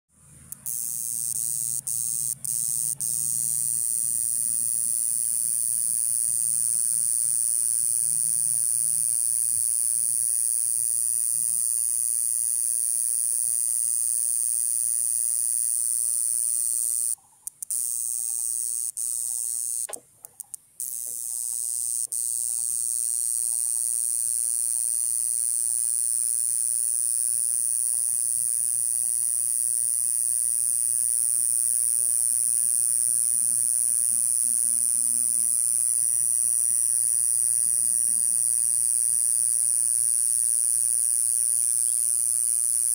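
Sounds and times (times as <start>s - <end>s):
cicada buzzing: 0.5s - 42.9s.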